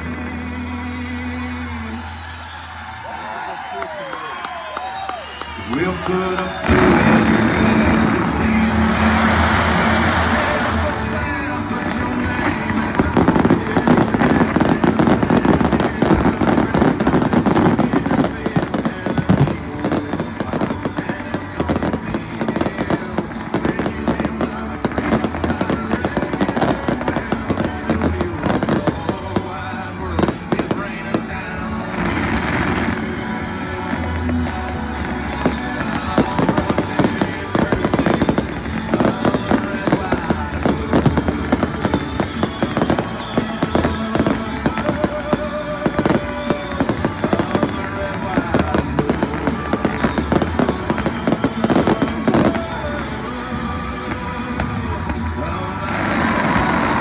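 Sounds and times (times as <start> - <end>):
country song playing: 0.0 - 57.0
fireworks crackling and popping: 0.0 - 57.0.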